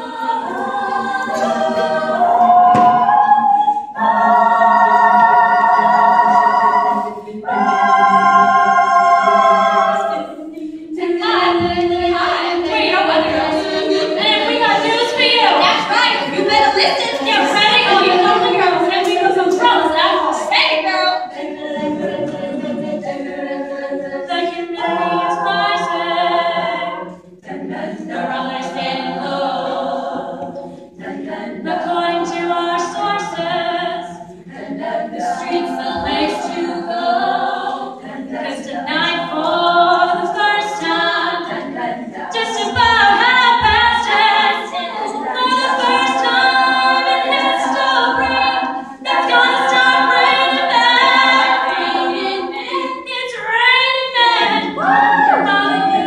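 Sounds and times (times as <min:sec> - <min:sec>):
a cappella group singing: 0:00.0 - 0:56.0.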